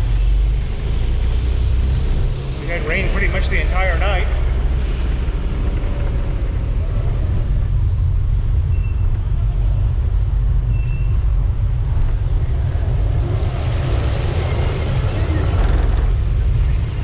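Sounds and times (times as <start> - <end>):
motorcycle running: 0.0 - 17.0
road noise: 0.0 - 17.0.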